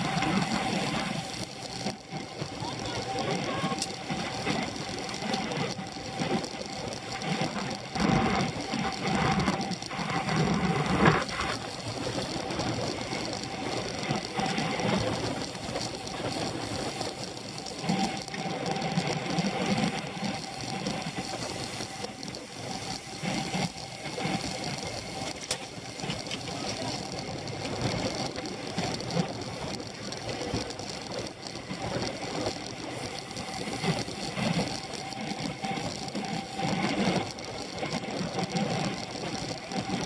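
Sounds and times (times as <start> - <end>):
bicycle freewheels ticking: 0.0 - 40.0
bicycle tyre noise: 0.0 - 40.0.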